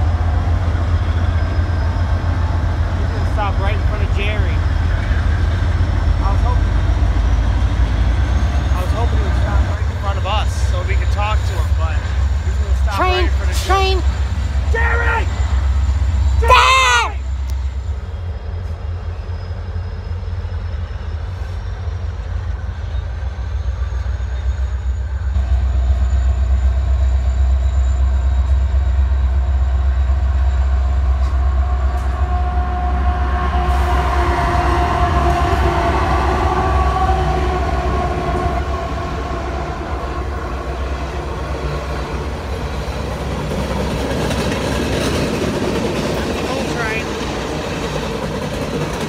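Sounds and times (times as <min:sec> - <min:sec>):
diesel locomotive rumble: 0:00.0 - 0:49.0
train cars rolling on rails: 0:00.0 - 0:49.0.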